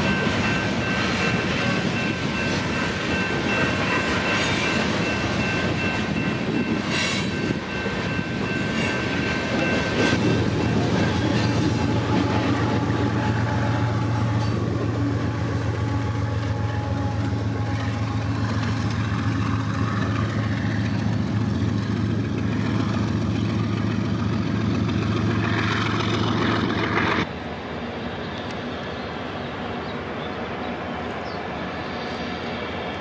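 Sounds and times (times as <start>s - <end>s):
train cars rolling over rails: 0.0s - 31.2s
diesel locomotive engine hum: 0.0s - 33.0s.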